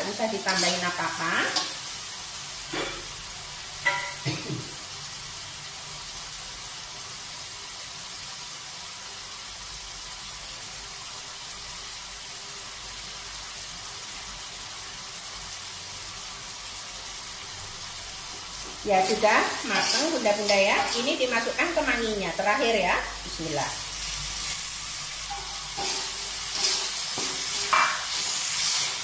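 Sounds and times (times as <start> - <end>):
sauce sizzling in a wok: 0.0 - 29.0.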